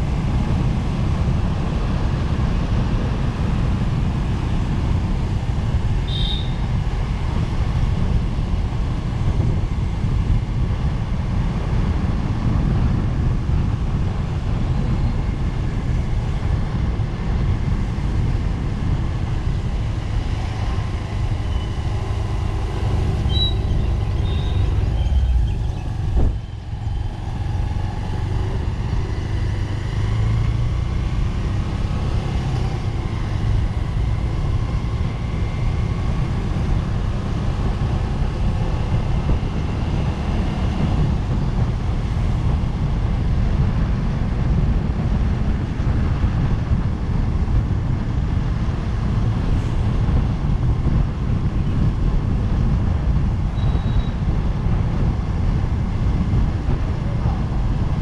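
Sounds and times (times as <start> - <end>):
road and traffic rumble: 0.0 - 58.0.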